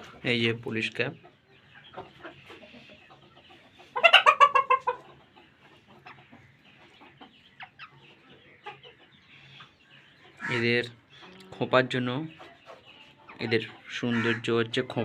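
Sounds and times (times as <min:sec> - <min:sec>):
chicken clucking: 0:00.0 - 0:15.0.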